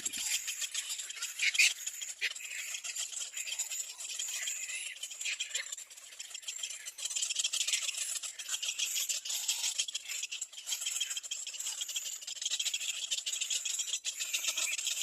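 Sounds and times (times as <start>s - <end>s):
cormorant chicks begging calls: 0.0s - 15.0s.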